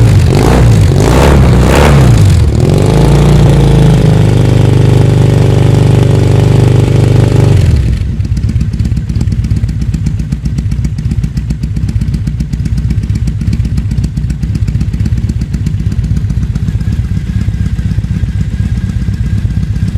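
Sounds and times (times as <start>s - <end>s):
motorcycle engine revving and idling: 0.0s - 19.9s.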